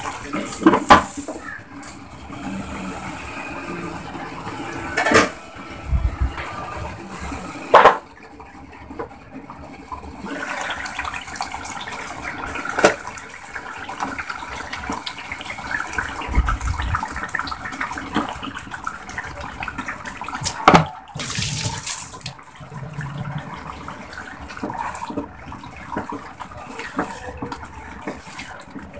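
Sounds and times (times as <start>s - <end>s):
curry sizzling and bubbling: 0.0s - 28.9s.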